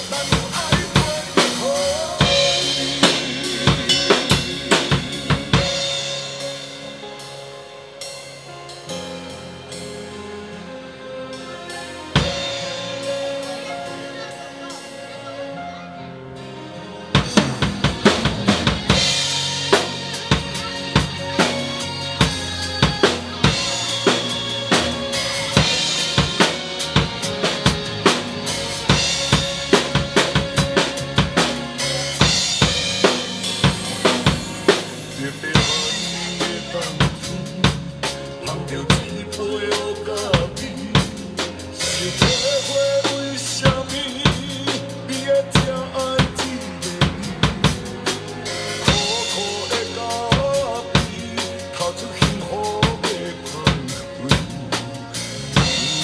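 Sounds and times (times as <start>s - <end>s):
drum kit playing: 0.0s - 56.0s
pop song backing track: 0.0s - 56.0s.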